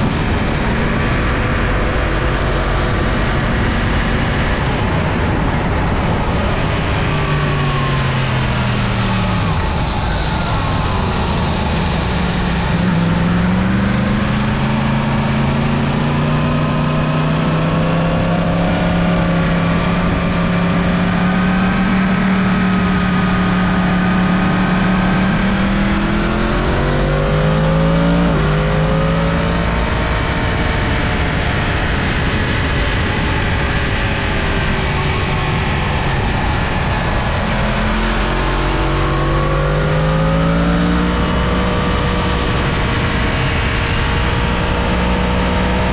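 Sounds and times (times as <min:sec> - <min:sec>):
motorcycle engine accelerating: 0:00.0 - 0:45.9
steady rush of noise: 0:00.0 - 0:45.9.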